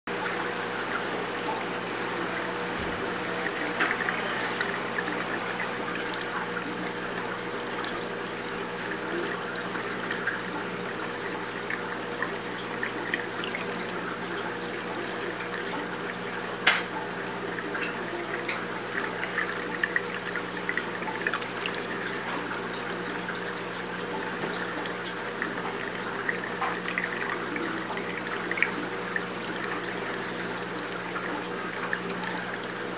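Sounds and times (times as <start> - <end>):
water trickling and splashing: 0.1 - 32.9.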